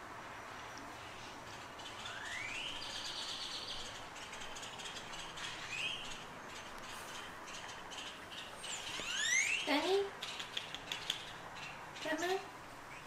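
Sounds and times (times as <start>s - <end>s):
outdoor background noise: 0.0s - 13.0s
songbirds calling: 0.0s - 13.0s.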